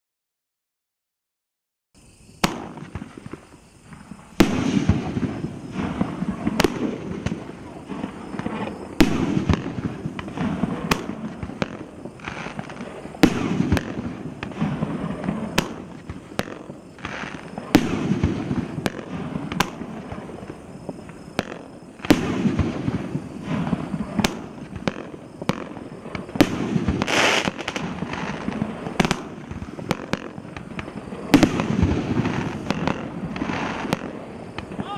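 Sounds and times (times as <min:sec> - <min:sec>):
fireworks launching and bursting: 0:02.0 - 0:34.9.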